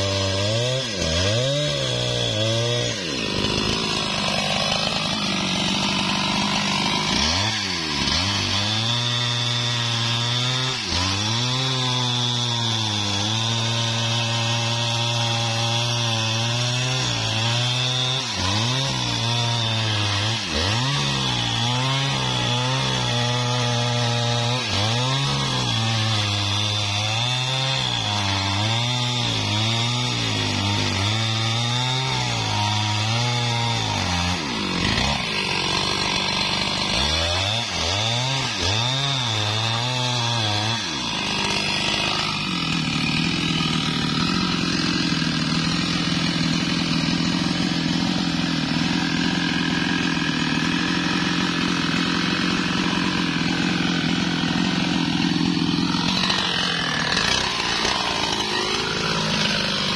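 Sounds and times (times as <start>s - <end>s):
chainsaw cutting wood: 0.0s - 59.9s
chainsaw idling: 0.0s - 59.9s.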